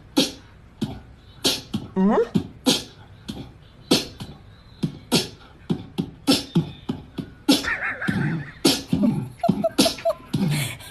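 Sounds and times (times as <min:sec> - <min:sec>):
beatboxing percussive mouth sounds: 0:00.0 - 0:10.9.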